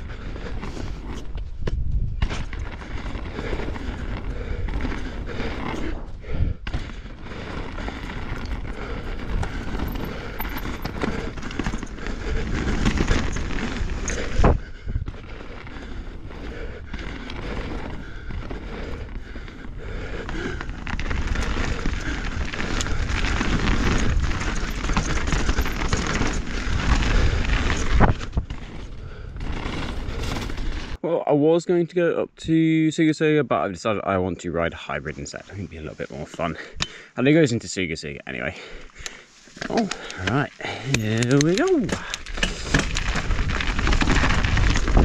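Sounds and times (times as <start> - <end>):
bike tyres rushing on dirt trail: 0.0 - 31.0, 37.8 - 45.0.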